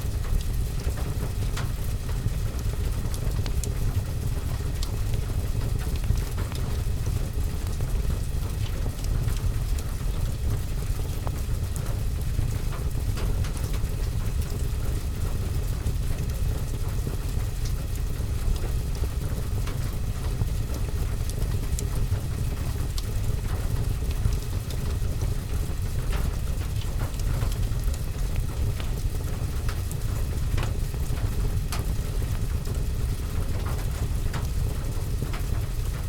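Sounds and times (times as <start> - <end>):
rain on window and roof: 0.0 - 36.0
fire crackling in fireplace: 0.1 - 36.0.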